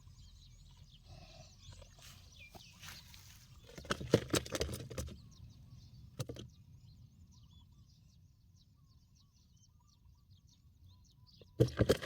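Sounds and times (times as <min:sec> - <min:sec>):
birdsong chirping: 0:00.0 - 0:12.0.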